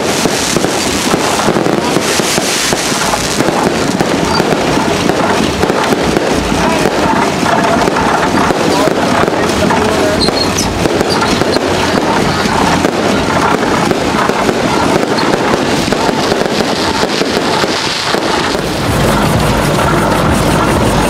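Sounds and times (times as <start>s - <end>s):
fireworks crackling: 0.0s - 21.0s
low rumble: 0.6s - 21.0s.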